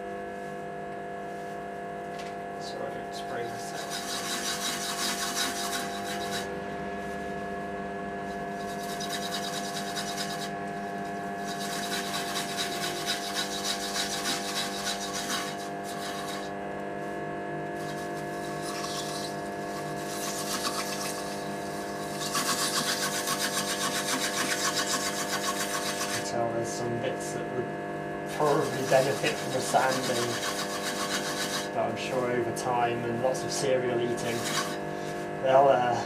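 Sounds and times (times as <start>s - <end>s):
lathe humming: 0.9s - 36.0s
shavings rubbing on spinning bowl: 2.6s - 27.5s, 28.3s - 36.0s.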